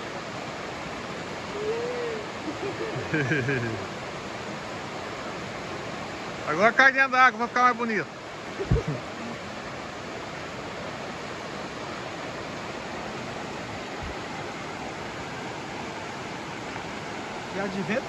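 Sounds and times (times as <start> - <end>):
creek water rushing over rocks: 0.0 - 18.0.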